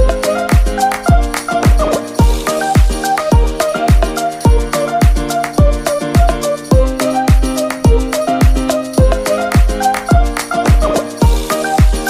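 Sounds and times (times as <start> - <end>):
upbeat background music: 0.0 - 12.0
deep kick drum: 1.1 - 12.0.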